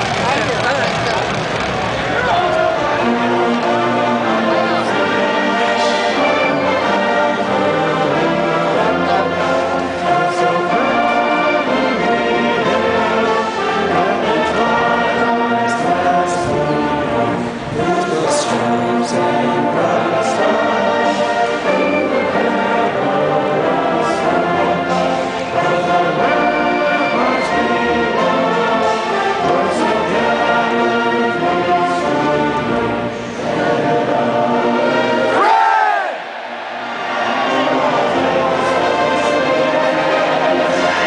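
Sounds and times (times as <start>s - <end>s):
crowd voices: 0.0s - 41.0s
marching band brass chords: 0.0s - 41.0s.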